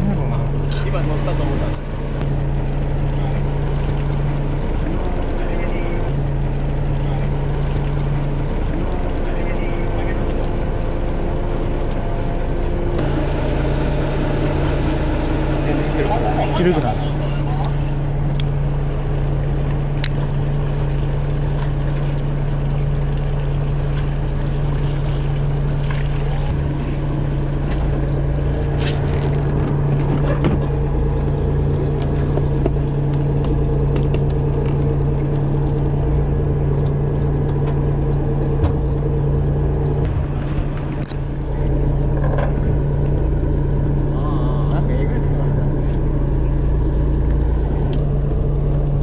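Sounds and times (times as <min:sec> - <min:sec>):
boat engine humming: 0:00.0 - 0:49.0.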